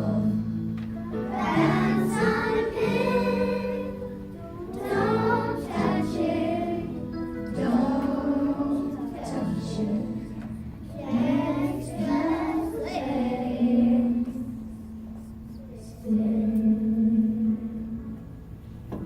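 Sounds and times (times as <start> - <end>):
children singing: 0.0 - 14.6, 15.6 - 18.0.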